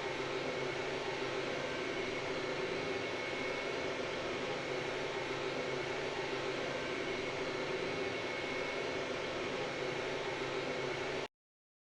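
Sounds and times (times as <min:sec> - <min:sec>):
faint high whine: 0:00.0 - 0:11.3
jet engine and airflow rush: 0:00.0 - 0:11.3.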